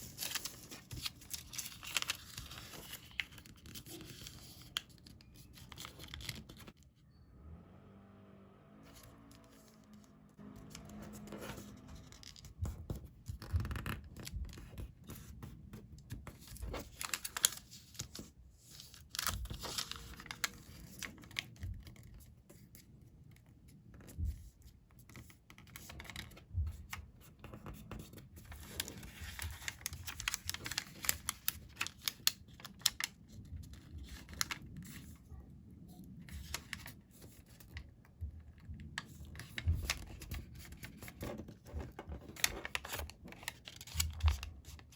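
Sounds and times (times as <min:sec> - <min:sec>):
paper being folded and creased: 0:00.0 - 0:06.8, 0:08.9 - 0:35.4, 0:36.2 - 0:44.9.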